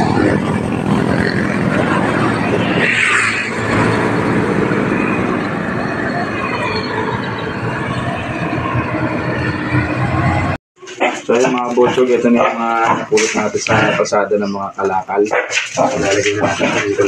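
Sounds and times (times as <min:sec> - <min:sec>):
vehicle engine: 0:00.0 - 0:14.1.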